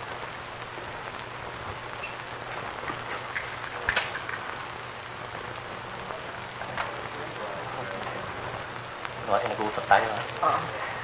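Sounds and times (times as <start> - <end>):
low steady hum: 0.0 - 11.0
old film soundtrack hiss and crackle: 0.0 - 11.0.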